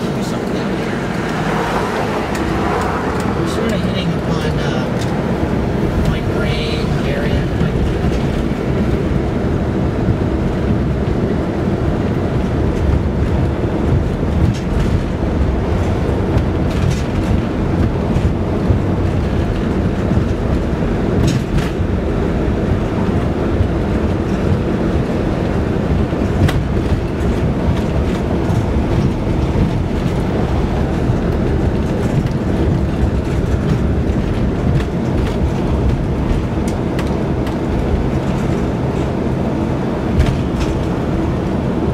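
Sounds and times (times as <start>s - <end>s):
car tyres and engine rumble: 0.0s - 41.9s.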